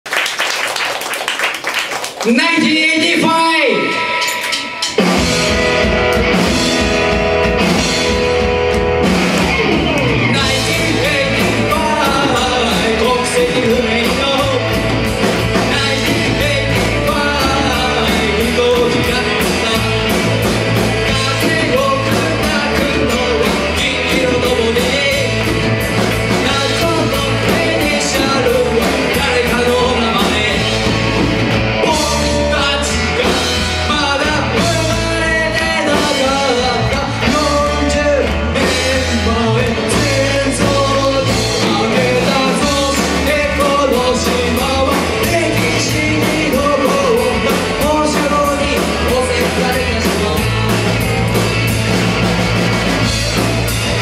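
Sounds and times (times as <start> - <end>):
drums: 0.1 - 54.0
man singing lead vocal: 2.3 - 5.0, 10.2 - 51.6
bass guitar: 3.2 - 54.0
electric guitars: 3.6 - 54.0.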